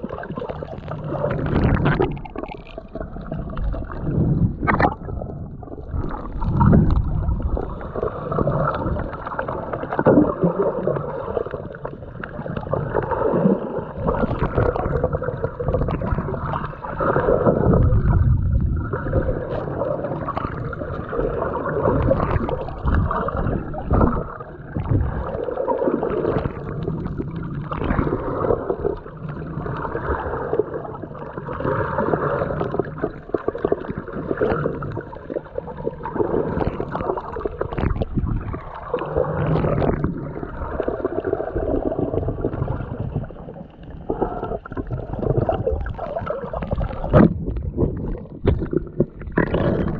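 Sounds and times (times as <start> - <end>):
water gurgling underwater: 0.0 - 49.9.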